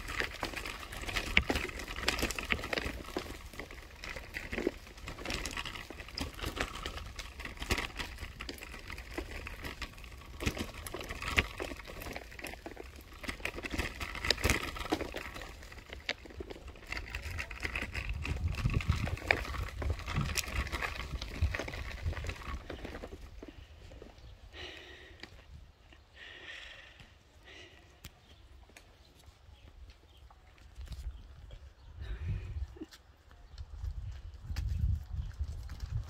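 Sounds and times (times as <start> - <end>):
kick scooter wheels rattling: 0.0 - 25.4, 28.7 - 36.0.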